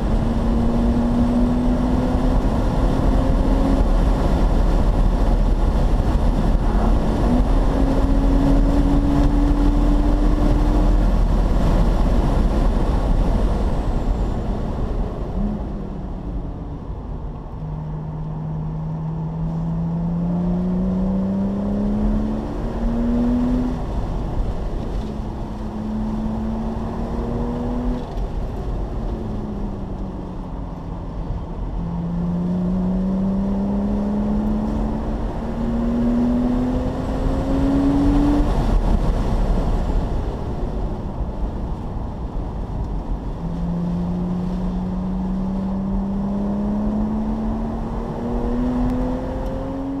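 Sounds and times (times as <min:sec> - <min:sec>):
car engine at full throttle: 0:00.0 - 0:50.0
wind and road noise: 0:00.0 - 0:50.0.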